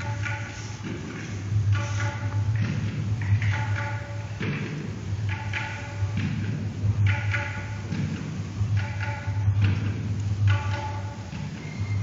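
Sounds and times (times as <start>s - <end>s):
tabla strokes: 0.0s - 12.0s.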